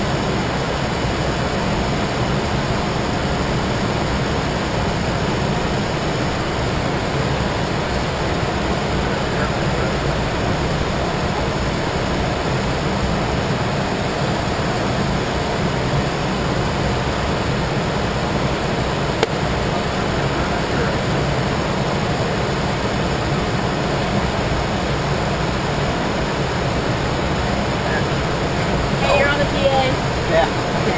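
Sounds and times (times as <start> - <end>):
airflow and jet engine noise: 0.0 - 30.9.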